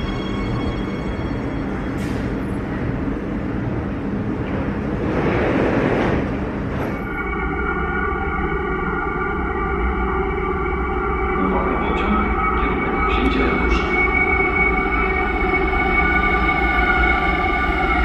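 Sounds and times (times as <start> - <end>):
train and station rumble and hum: 0.0 - 18.0.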